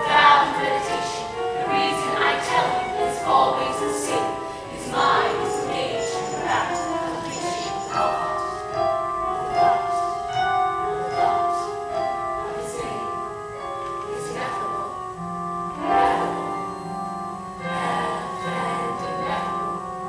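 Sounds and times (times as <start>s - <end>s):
held keyboard chords: 0.0s - 20.0s.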